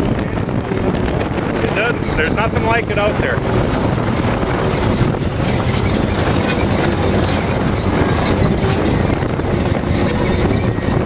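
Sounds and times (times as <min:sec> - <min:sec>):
engine noise: 0:00.0 - 0:11.0
wind noise: 0:00.0 - 0:11.0.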